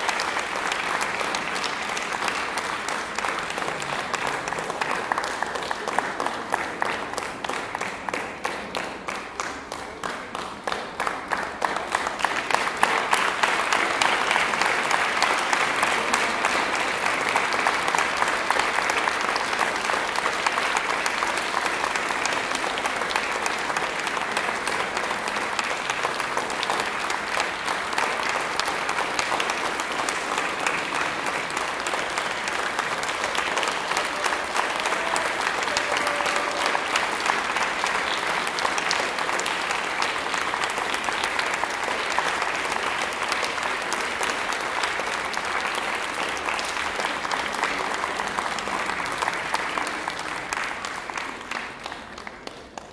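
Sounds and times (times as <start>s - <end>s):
audience applauding: 0.0s - 52.9s.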